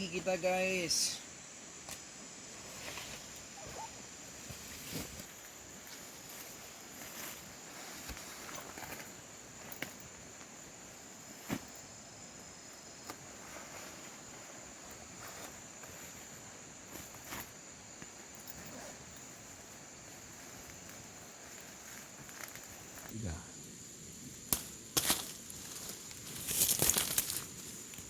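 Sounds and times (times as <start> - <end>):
high-pitched insect drone: 0.0 - 27.8.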